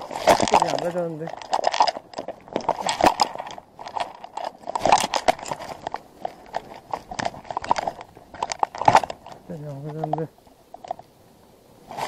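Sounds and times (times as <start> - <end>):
stones clacking and crunching: 0.0 - 11.1.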